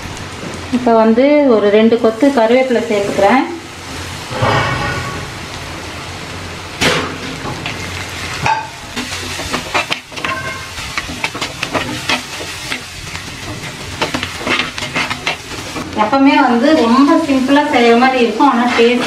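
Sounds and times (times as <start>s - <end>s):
curry leaves crackling in oil: 0.0s - 4.3s, 5.5s - 19.0s
onions sizzling in oil: 0.0s - 19.0s.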